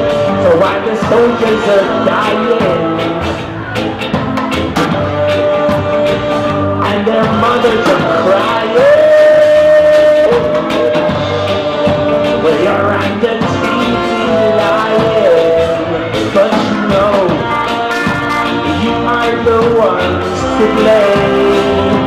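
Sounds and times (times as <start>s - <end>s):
person singing: 0.0s - 3.8s, 5.2s - 22.0s
ska band playing with brass: 0.0s - 22.0s.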